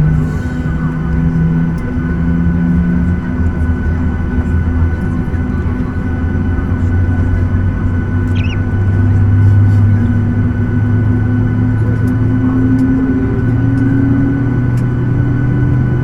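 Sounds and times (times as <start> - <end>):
jet engine drone in cabin: 0.0 - 16.0.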